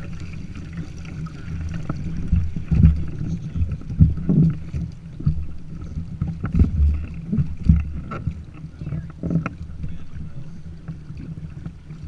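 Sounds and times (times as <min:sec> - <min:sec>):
low rumble of kayak moving: 0:00.0 - 0:12.0
water slapping the hull: 0:00.0 - 0:12.0.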